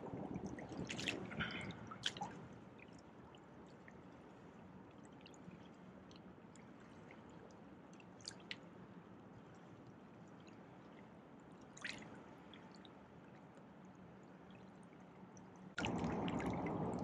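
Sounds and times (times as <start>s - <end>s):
faint river water trickling: 0.0s - 17.0s
small water splashes: 0.0s - 17.0s.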